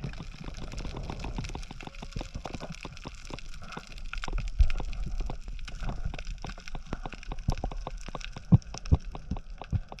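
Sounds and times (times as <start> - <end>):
underwater crackle of sharp clicks: 0.0 - 10.0.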